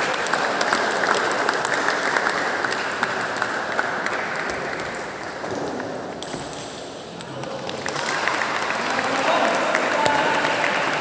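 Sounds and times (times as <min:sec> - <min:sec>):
audience applauding: 0:00.0 - 0:05.9, 0:07.3 - 0:11.0.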